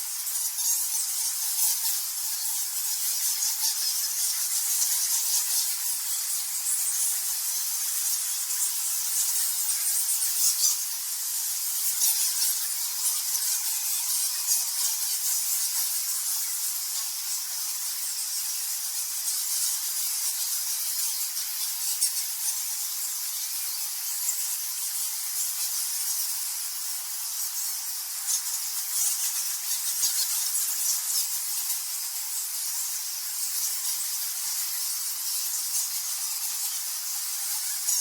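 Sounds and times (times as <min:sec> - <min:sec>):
bats squeaking and chittering: 0:00.1 - 0:38.0.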